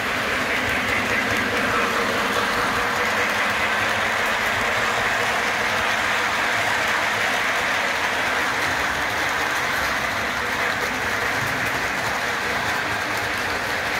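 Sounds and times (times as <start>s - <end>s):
model train motor whirring: 0.0s - 13.9s.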